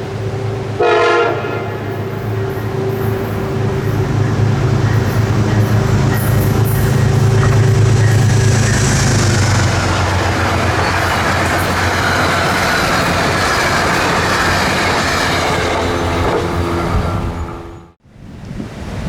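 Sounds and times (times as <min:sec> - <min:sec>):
passenger train passing: 0:00.0 - 0:18.0
rail and wheel noise: 0:00.0 - 0:19.0.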